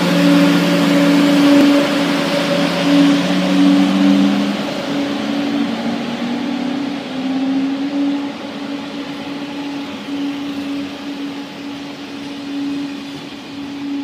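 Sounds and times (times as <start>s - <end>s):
steady low hum: 0.0s - 14.0s
train wheels rushing on rail: 0.0s - 14.0s.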